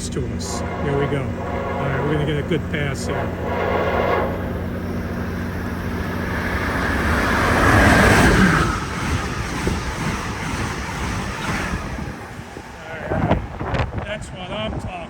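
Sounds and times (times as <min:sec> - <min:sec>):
clatter of passing railcars: 0:00.0 - 0:14.1
passenger train passing: 0:00.0 - 0:14.4
rush of air and wheels: 0:00.4 - 0:14.2.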